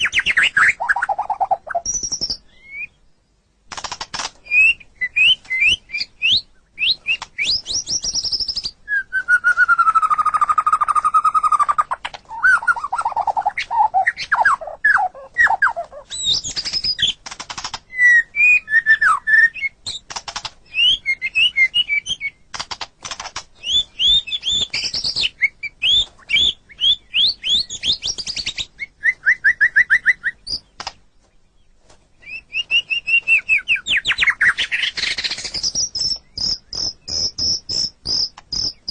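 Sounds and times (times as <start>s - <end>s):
bird singing whistled phrases: 0.0s - 3.0s, 4.5s - 17.2s, 17.9s - 19.8s, 20.7s - 22.4s, 23.6s - 30.7s, 32.2s - 38.9s.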